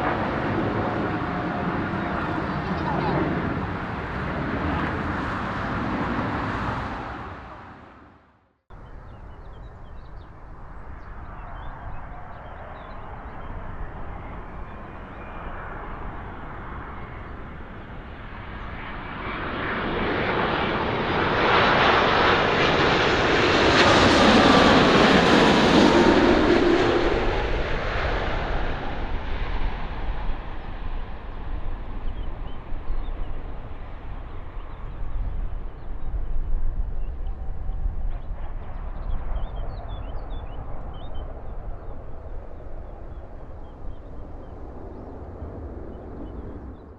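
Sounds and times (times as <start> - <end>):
jet engines passing close by: 0.0 - 46.9.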